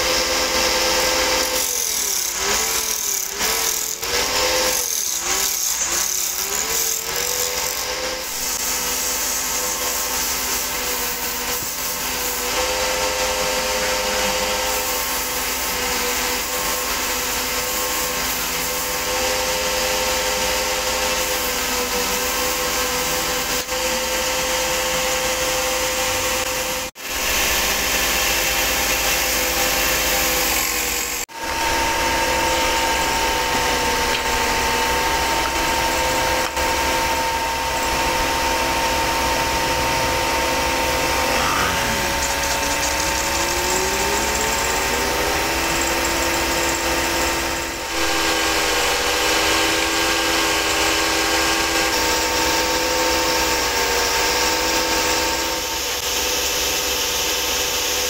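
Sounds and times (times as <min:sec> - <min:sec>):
chisel cutting spinning wood: 0:00.0 - 0:58.0
wood lathe hum: 0:00.0 - 0:58.0.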